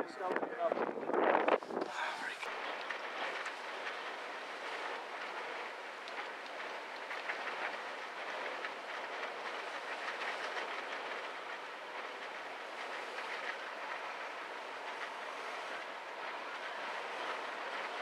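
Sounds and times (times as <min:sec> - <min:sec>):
wind: 0:00.0 - 0:18.0
choppy water: 0:00.2 - 0:18.0.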